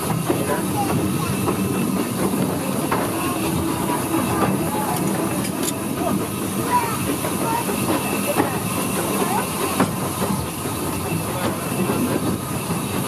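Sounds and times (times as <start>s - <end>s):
steam hissing: 0.0s - 13.0s
steam locomotive running: 0.0s - 13.0s.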